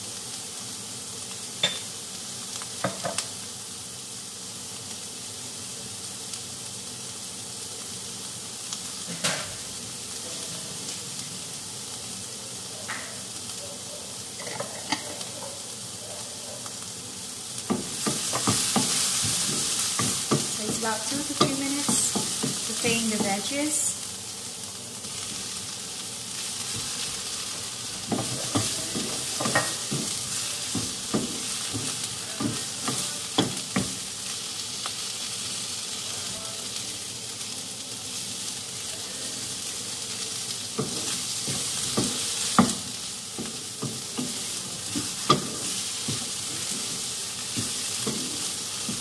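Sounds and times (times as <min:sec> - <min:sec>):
vegetables sizzling in frying pan: 0:00.0 - 0:49.0.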